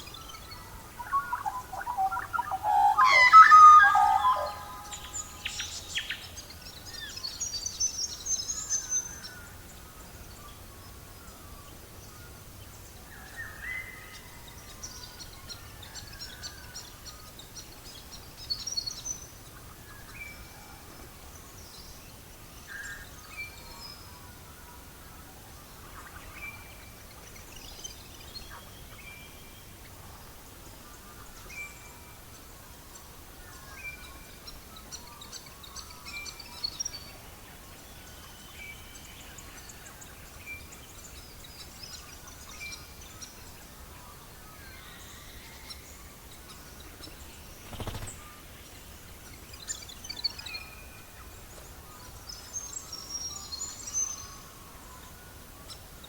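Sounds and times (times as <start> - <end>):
birds chirping song: 0.0 - 56.0
faint steady hiss: 0.0 - 56.0.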